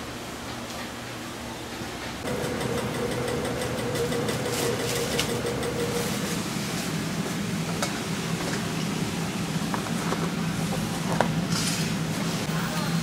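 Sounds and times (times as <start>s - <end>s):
kitchen machinery drone: 1.4s - 13.0s.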